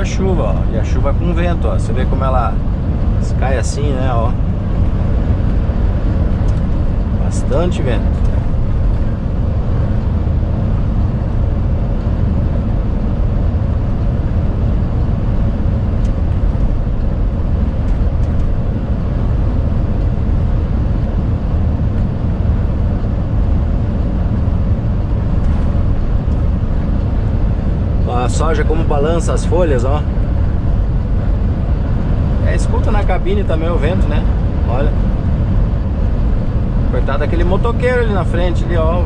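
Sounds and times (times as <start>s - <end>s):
road noise: 0.0s - 39.0s
strong wind against truck cab: 0.0s - 39.0s
truck engine running: 0.0s - 39.0s.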